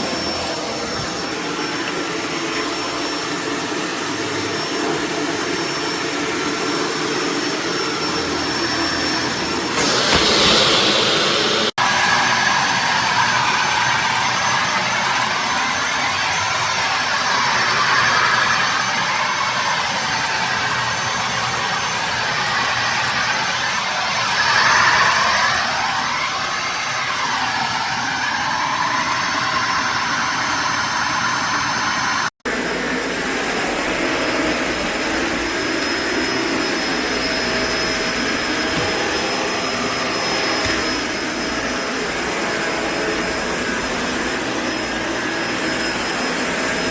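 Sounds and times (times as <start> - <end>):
vacuum cleaner motor whine: 0.0 - 46.9.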